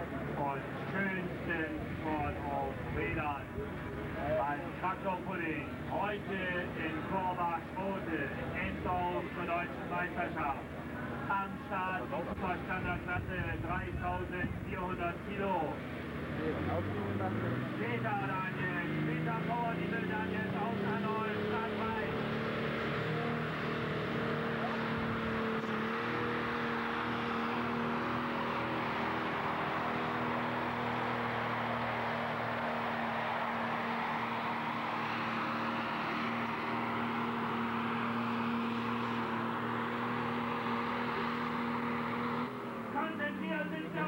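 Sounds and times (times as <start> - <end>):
tractor diesel engine at full throttle: 0.0 - 44.0.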